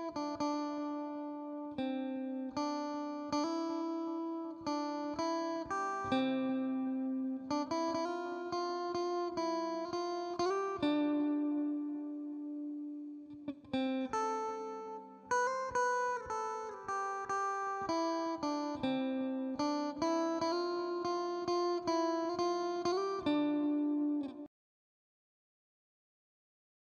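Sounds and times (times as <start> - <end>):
clean electric guitar melody: 0.0 - 24.5.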